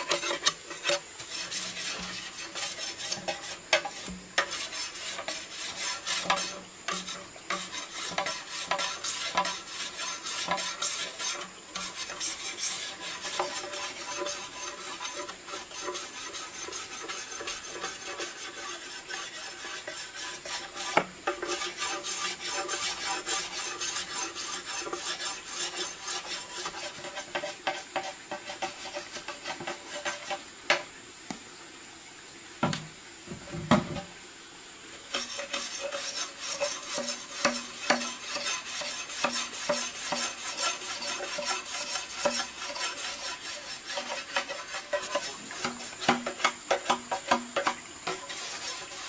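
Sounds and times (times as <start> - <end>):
scraping and rubbing strokes: 0.0 - 30.5, 35.1 - 49.0.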